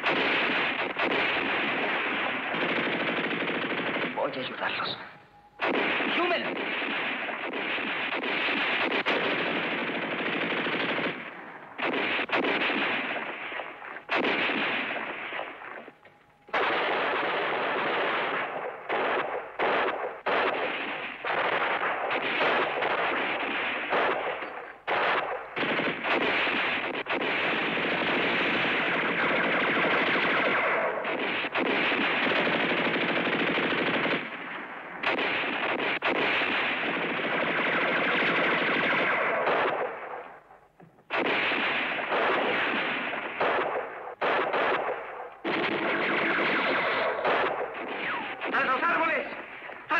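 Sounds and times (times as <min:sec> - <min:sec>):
machine-gun fire: 0:00.0 - 0:04.8, 0:05.6 - 0:40.5, 0:41.1 - 0:49.9
rifle shots: 0:00.0 - 0:49.9.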